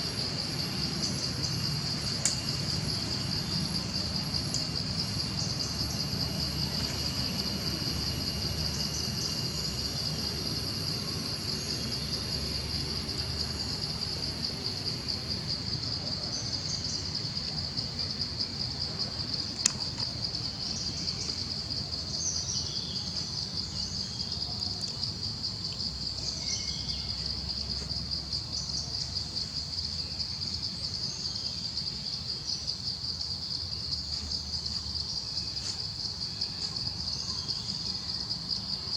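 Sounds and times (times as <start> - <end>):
high pulsing insect drone: 0.0 - 38.9.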